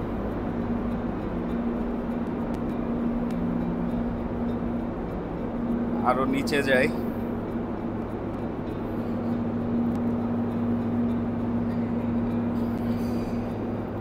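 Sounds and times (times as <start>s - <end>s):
low machinery drone: 0.0s - 14.0s.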